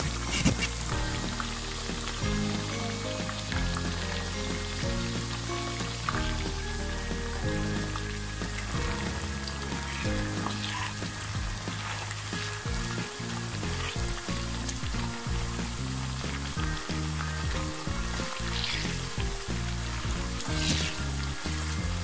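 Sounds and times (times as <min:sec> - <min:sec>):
background music: 0:00.0 - 0:22.0
potato slices sizzling in oil: 0:00.0 - 0:22.0.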